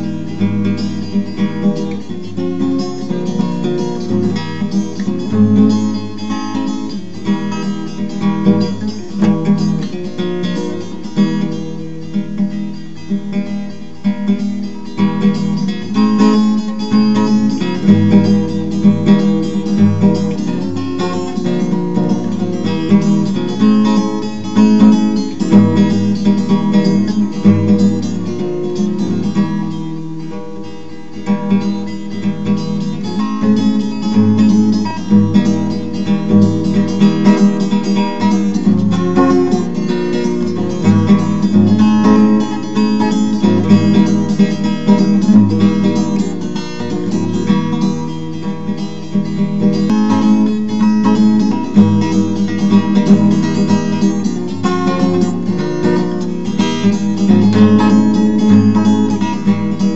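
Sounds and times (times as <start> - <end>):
acoustic guitar strummed and plucked: 0.0 - 59.9.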